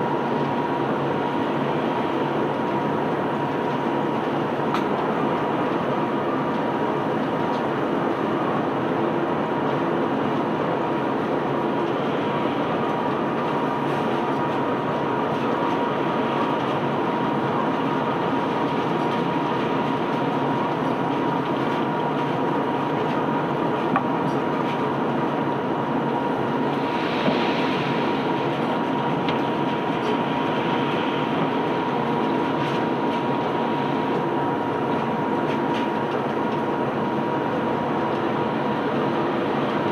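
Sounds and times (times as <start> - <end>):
conveyor belt rumbling and rattling: 0.0 - 39.9
steady high whine: 0.0 - 39.9.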